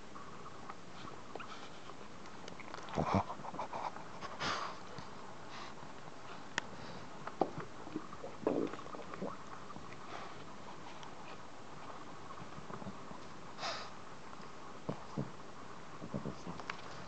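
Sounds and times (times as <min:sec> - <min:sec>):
puppies snuffling: 0:00.2 - 0:17.0.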